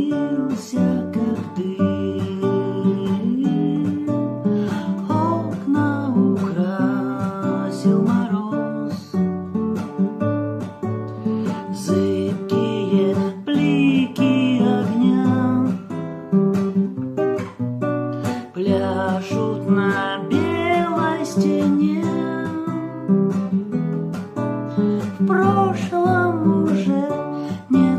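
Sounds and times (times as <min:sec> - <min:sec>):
strummed acoustic guitar song: 0:00.0 - 0:27.9.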